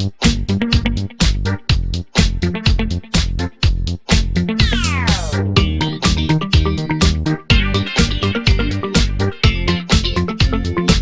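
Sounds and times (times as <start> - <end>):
disco funk dance music: 0.0 - 11.0.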